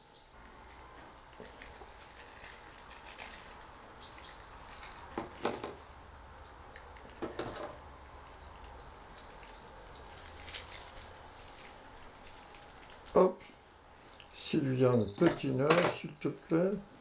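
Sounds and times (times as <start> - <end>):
rustling and scraping of thread: 0.4 - 14.4.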